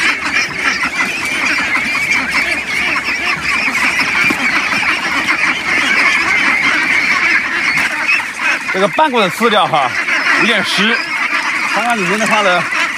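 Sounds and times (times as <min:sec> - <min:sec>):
flock of young ducks calling: 0:00.0 - 0:12.9.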